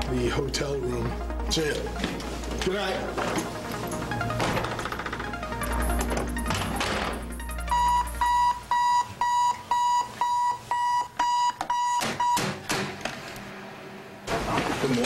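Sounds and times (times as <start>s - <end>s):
alarm clock beeping: 0.0s - 12.4s.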